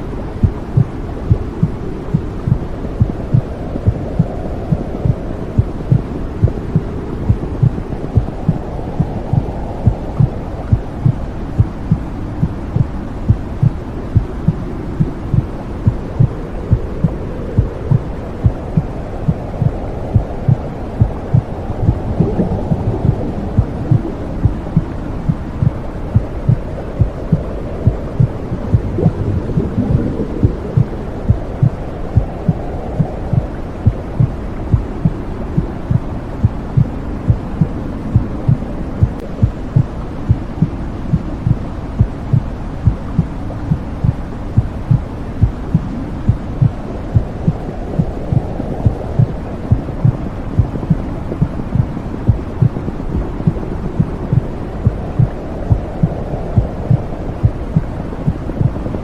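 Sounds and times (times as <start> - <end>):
muffled whooshing hum: 0.0 - 59.0
heartbeat pulsing: 0.4 - 59.0.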